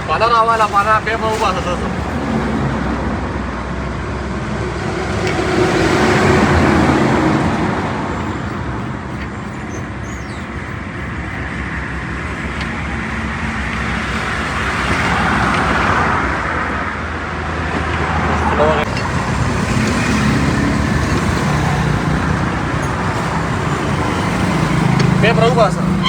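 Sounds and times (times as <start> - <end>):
highway traffic passing: 0.0 - 26.0.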